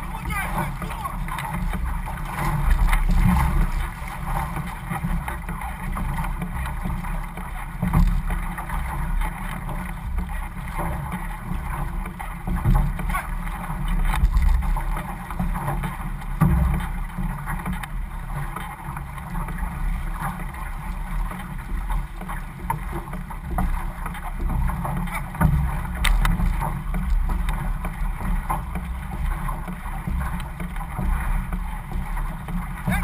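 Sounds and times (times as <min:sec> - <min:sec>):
paddles dipping in water: 0:00.0 - 0:33.0
water splashing along canoe hull: 0:00.0 - 0:33.0.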